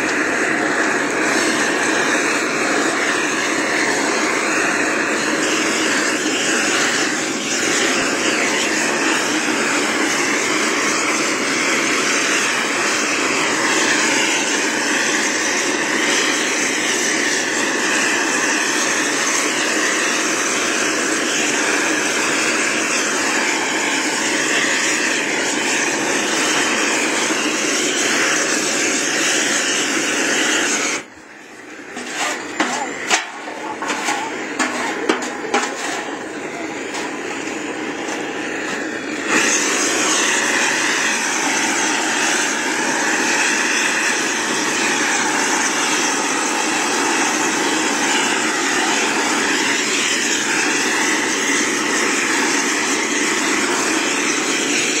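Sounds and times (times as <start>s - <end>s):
propane torch flame rushing: 0.0s - 55.0s.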